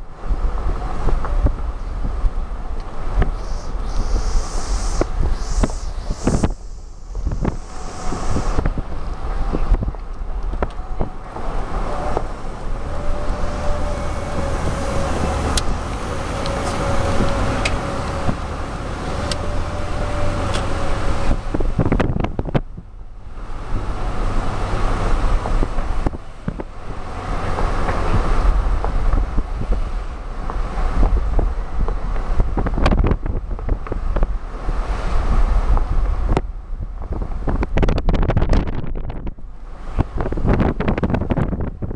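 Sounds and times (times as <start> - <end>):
car road noise: 0.0 - 41.9
wind buffeting microphone: 0.0 - 41.9.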